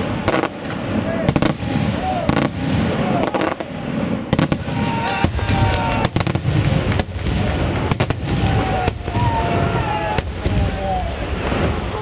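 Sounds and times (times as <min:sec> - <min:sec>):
firework bangs: 0:00.0 - 0:12.0
firework whistling: 0:00.0 - 0:12.0.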